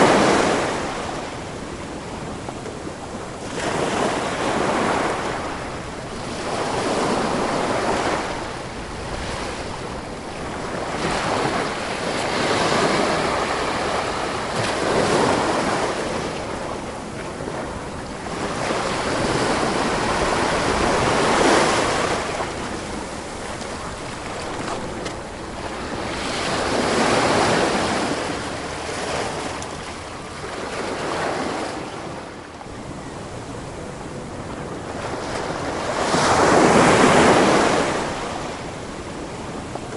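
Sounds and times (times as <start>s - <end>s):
ocean waves washing ashore: 0.0s - 39.9s
wind on microphone: 0.0s - 39.9s.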